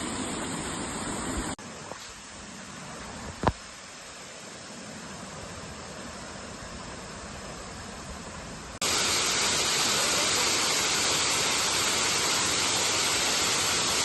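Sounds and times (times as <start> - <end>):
falling water rushing: 0.0 - 14.0.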